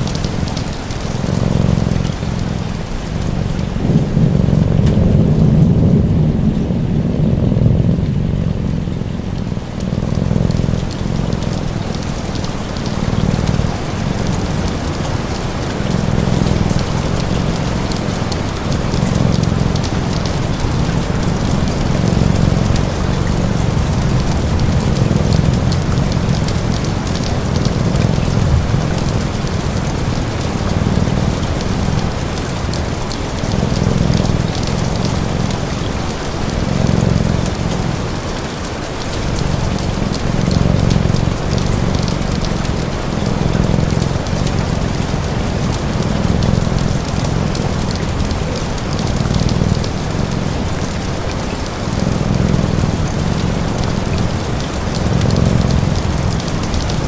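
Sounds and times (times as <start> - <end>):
cat purring: 0.0 - 57.0
steady rain falling: 0.0 - 57.0.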